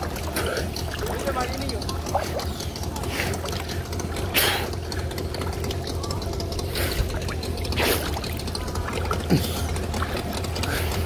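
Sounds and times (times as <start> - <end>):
outboard motor running: 0.0 - 11.0
water sloshing and splashing: 0.0 - 11.0.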